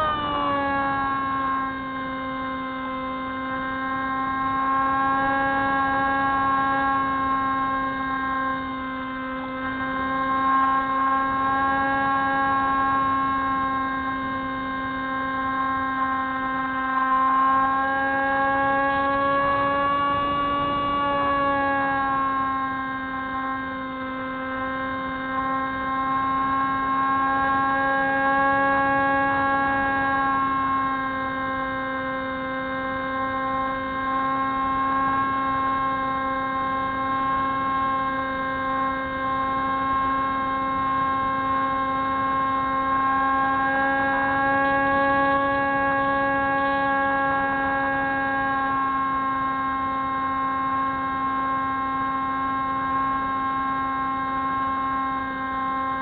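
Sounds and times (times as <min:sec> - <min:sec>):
model plane motor droning: 0:00.0 - 0:56.0.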